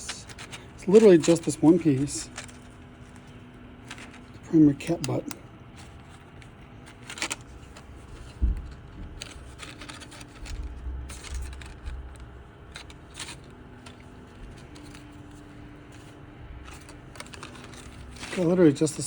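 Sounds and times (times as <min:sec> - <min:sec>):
plastic clicks and scrapes: 0:00.0 - 0:19.0.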